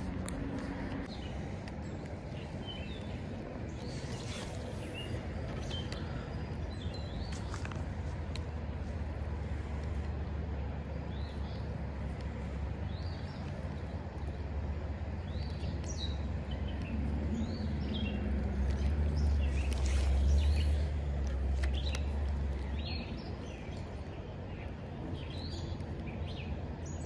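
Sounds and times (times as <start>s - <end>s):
small birds chirping: 0.0s - 27.0s
steady low rumble: 0.0s - 27.0s.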